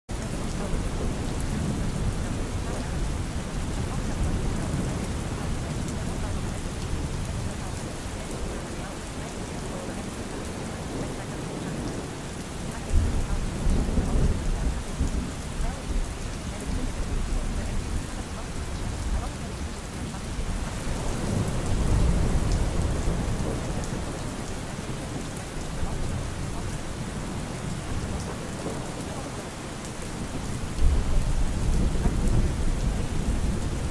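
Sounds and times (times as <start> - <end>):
steady rain: 0.1 - 33.9
thunder rumbling: 0.1 - 33.9.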